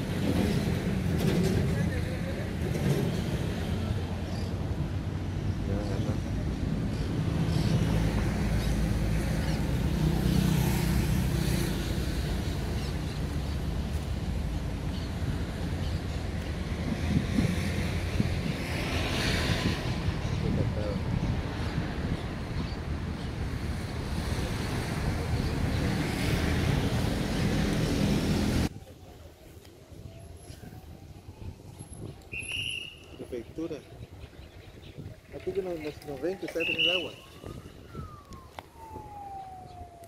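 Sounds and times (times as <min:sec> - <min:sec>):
outdoor background noise: 0:00.0 - 0:40.0
wind buffeting microphone: 0:00.0 - 0:40.0.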